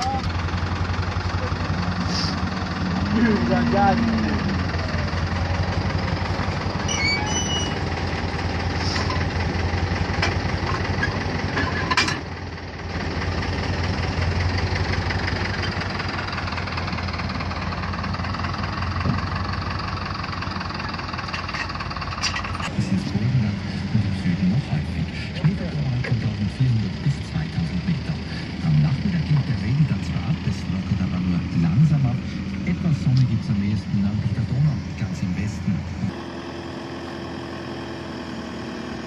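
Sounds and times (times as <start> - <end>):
machine engine rattling: 0.0 - 39.0.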